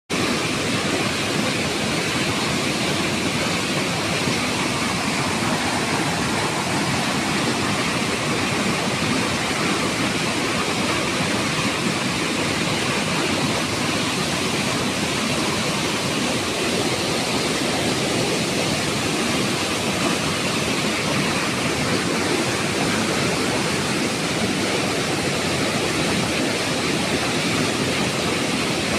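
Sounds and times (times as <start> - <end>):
fast-flowing water rushing: 0.0 - 28.9.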